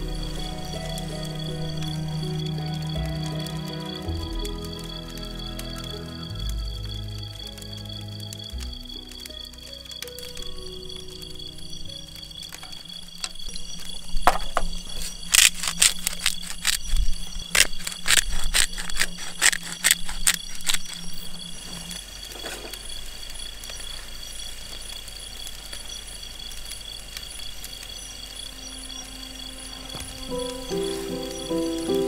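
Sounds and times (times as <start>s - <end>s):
night insects chirring: 0.0s - 32.0s.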